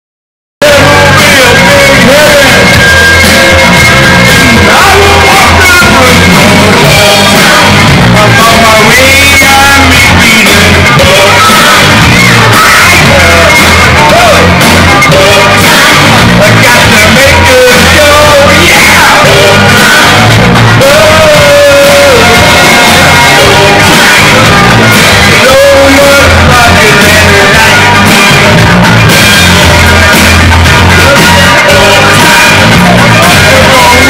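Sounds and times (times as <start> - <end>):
person singing: 0.6 - 34.0
pop-rock backing track: 0.6 - 34.0.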